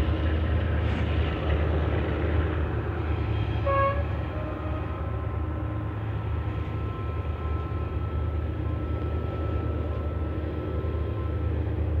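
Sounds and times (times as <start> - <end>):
train wagons rumbling on track: 0.0 - 12.0.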